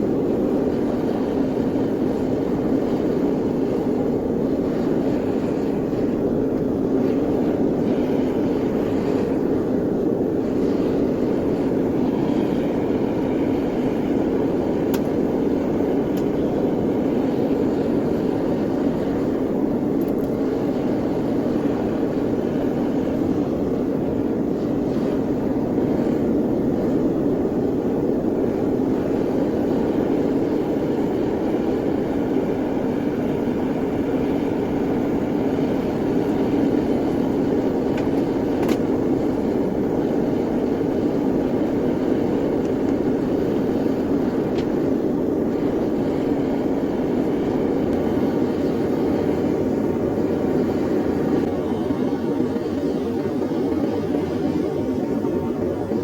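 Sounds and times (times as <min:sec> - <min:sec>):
furnace roaring: 0:00.0 - 0:56.0.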